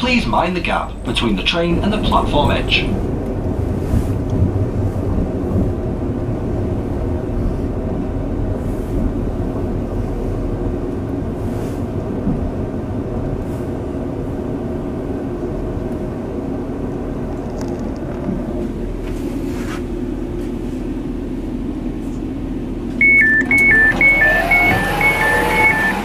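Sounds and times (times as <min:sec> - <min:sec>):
train engine rumble: 0:00.0 - 0:26.0.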